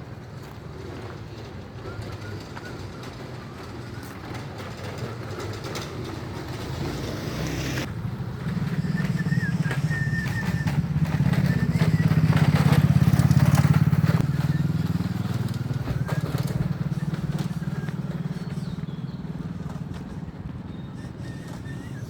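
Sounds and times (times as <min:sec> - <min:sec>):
close engine hum: 0:00.0 - 0:22.0
traffic engine rumble: 0:00.0 - 0:22.0.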